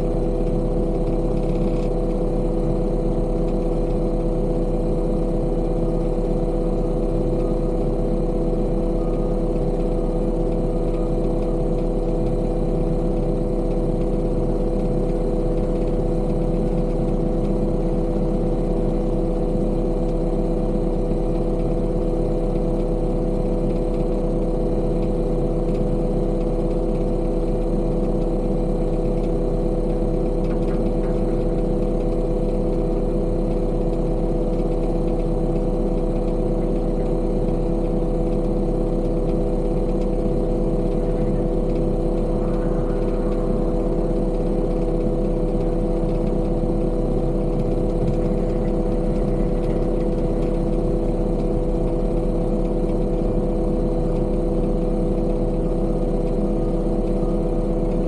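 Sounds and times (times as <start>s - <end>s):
heavy machine engine droning: 0.0s - 58.0s.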